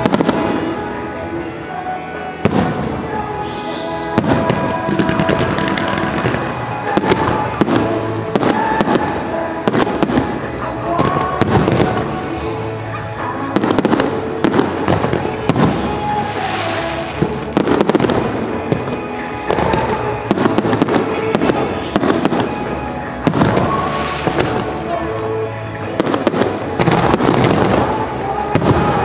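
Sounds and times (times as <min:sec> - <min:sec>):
fireworks bursting: 0:00.0 - 0:29.0
pop music with singing: 0:00.0 - 0:29.0.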